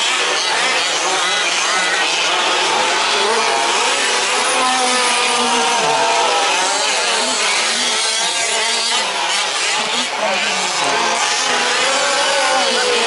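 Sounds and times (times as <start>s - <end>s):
small engines revving: 0.0s - 13.0s.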